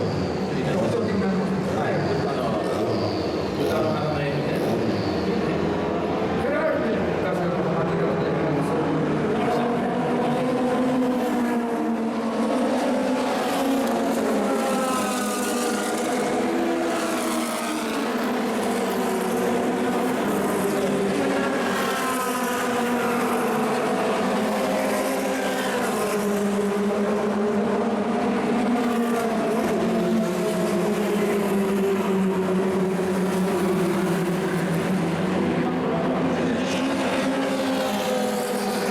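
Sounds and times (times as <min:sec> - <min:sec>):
race car engines passing: 0:00.0 - 0:38.9.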